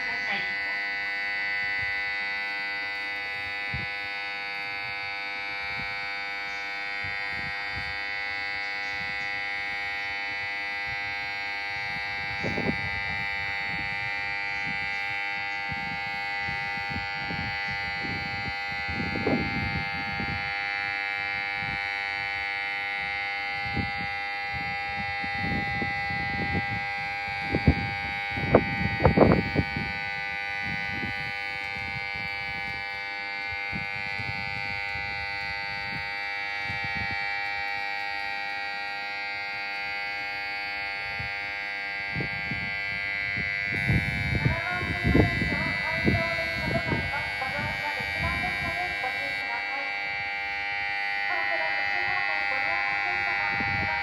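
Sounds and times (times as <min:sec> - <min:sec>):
buzzing alarm tone: 0:00.0 - 0:54.0.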